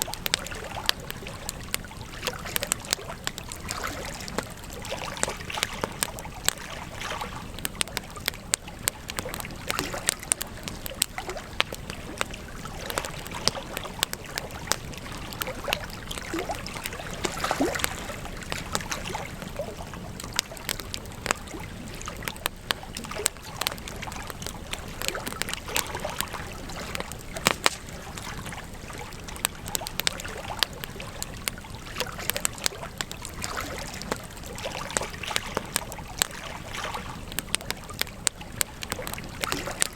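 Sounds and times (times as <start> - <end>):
campfire crackling and popping: 0.0 - 39.9
low hiss of fire: 0.0 - 39.9.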